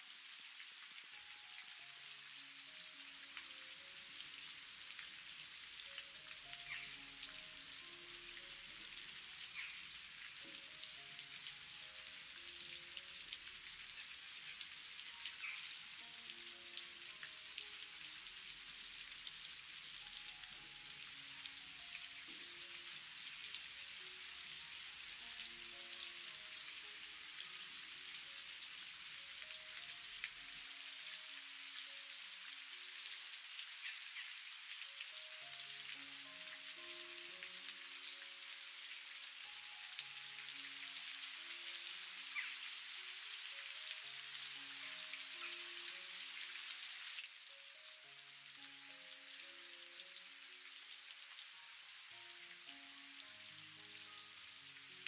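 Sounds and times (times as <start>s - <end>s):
rain pattering on wet surface: 0.0s - 55.0s
soft music with held notes: 0.0s - 55.0s.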